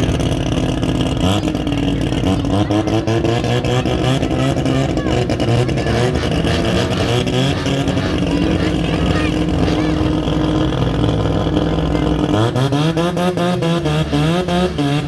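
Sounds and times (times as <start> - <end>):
rotary engine running loudly: 0.0 - 15.0.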